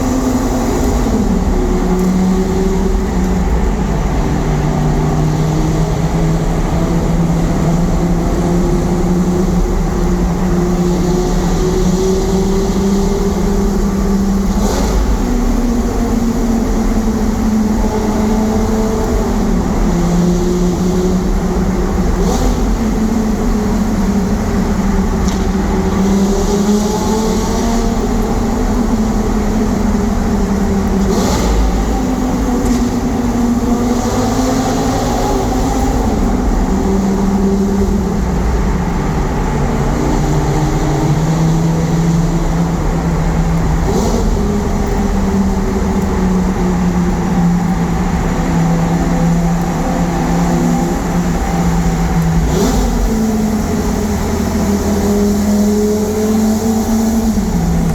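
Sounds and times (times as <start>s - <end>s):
car engine cruising: 0.0s - 57.9s
low road rumble: 0.0s - 57.9s.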